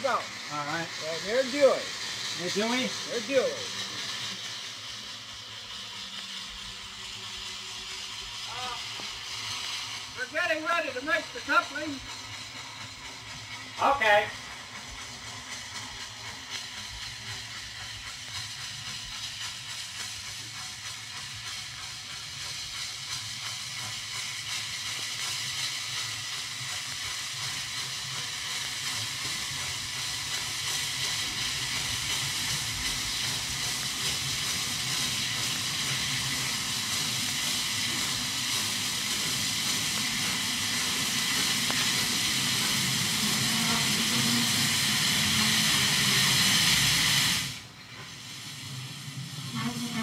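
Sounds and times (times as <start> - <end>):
steam locomotive hissing: 0.0 - 50.0.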